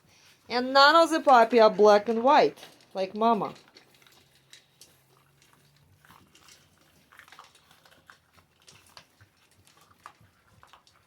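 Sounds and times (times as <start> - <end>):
puppies chewing with crunches: 0.0 - 11.0.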